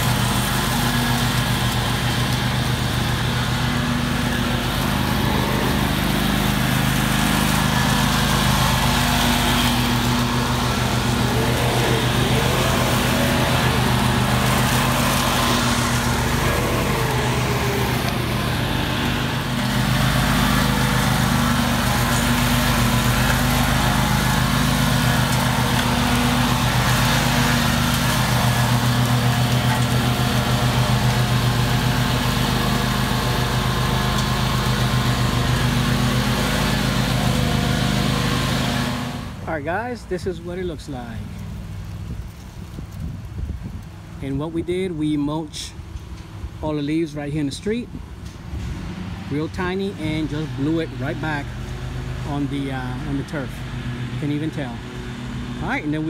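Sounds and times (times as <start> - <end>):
mower engine mulching leaves: 0.0 - 56.0.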